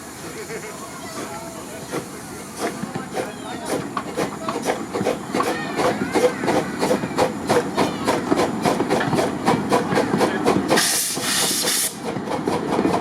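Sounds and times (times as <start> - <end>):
steam hissing: 0.0 - 13.0
train wheels clicking: 0.5 - 13.0.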